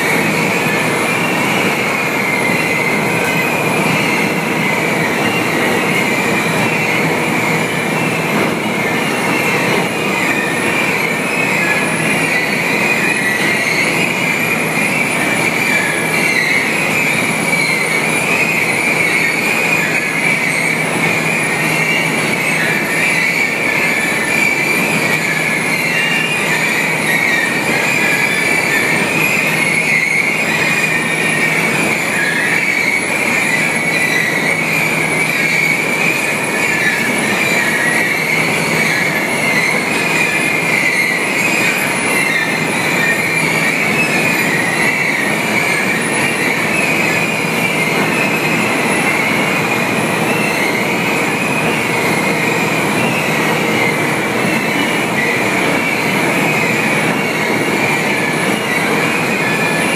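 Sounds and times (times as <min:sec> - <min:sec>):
high-pitched metallic squeal: 0:00.0 - 0:59.9.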